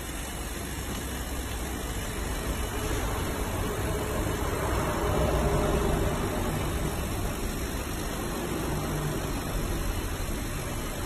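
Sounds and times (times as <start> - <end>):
fan and air rushing: 0.0 - 11.0
low machine hum: 0.0 - 11.0.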